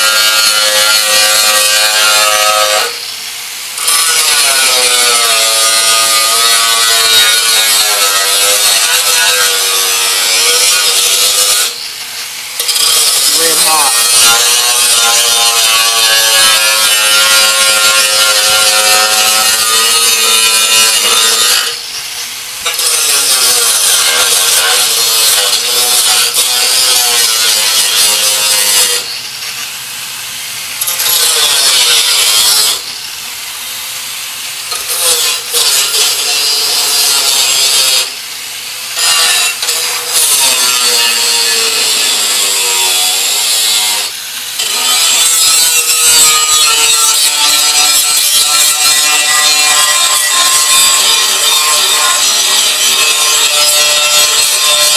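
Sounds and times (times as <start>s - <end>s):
angle grinder cutting metal: 0.0s - 54.9s.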